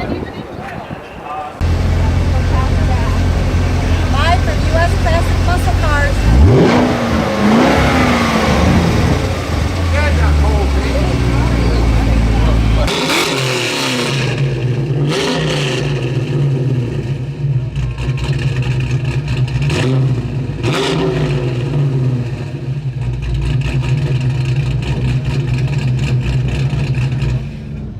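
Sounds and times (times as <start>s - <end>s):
car engine idling and revving: 1.6s - 27.9s.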